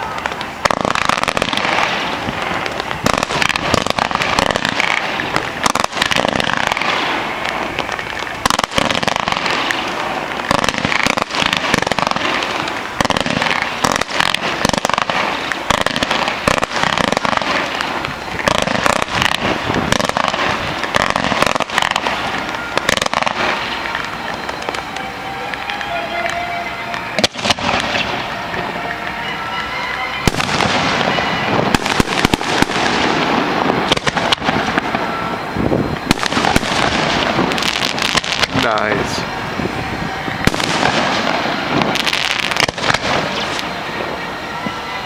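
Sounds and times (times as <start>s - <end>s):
firework pops and bangs: 0.0s - 39.0s, 40.2s - 44.0s
fireworks crackling: 0.0s - 45.0s.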